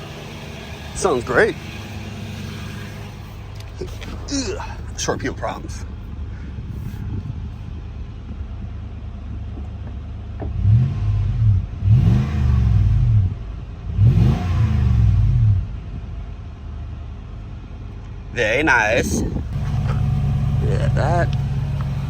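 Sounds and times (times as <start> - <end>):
engine idling and revving: 0.0 - 22.0.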